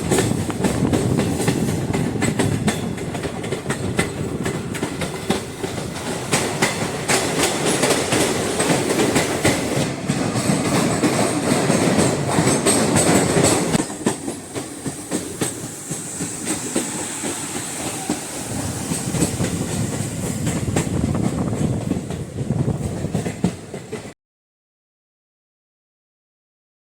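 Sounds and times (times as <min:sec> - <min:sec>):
train wheels clattering: 0:00.0 - 0:24.1.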